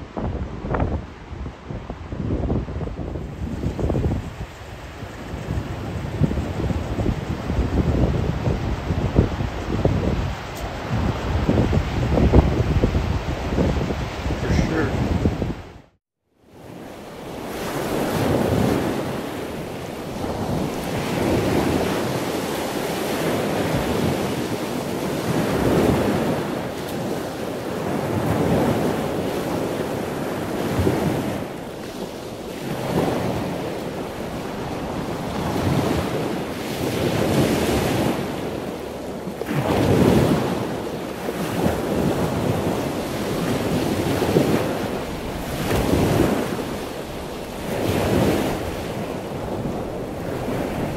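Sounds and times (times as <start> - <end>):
storm surf breaking on shore: 0.0 - 15.9, 16.5 - 50.9
wind buffeting microphone: 0.0 - 15.9, 16.5 - 50.9.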